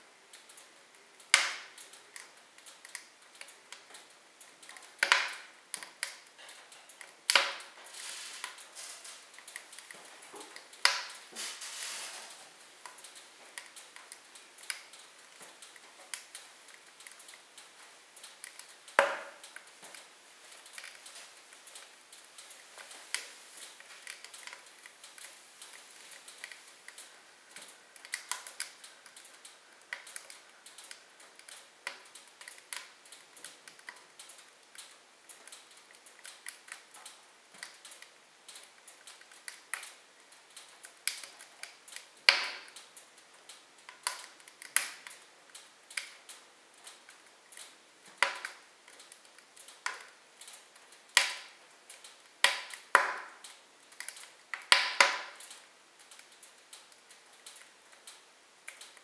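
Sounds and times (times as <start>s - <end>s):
logs crackling in fireplace: 0.0s - 59.0s.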